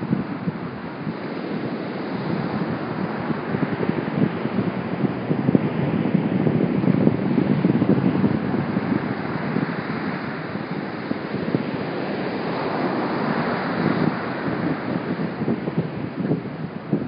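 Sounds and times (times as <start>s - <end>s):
small waves breaking on beach: 0.0s - 17.0s
wind buffeting microphone: 0.0s - 17.0s.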